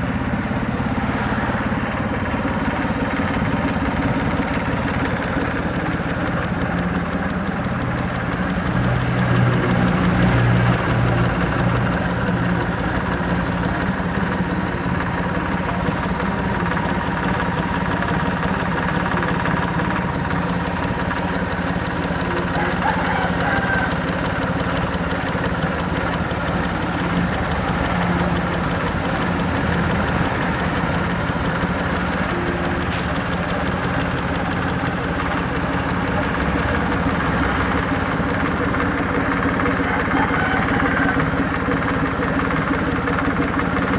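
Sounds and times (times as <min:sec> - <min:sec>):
engine idling with ticking: 0:00.0 - 0:43.9.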